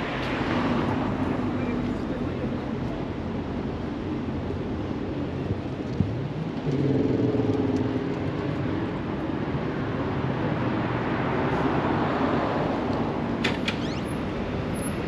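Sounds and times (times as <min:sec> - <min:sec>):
passing traffic hum: 0:00.0 - 0:15.0.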